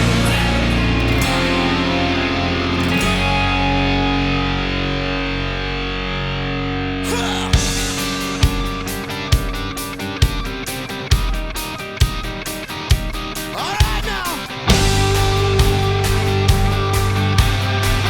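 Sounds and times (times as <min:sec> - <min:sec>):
distorted electric guitar chords: 0:00.0 - 0:18.0.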